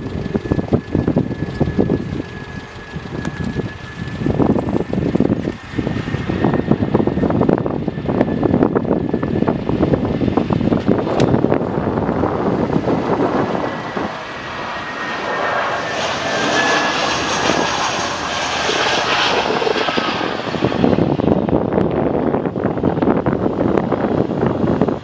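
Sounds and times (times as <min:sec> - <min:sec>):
faint high engine whine: 0:00.0 - 0:25.0
jet engines rushing: 0:00.0 - 0:25.0.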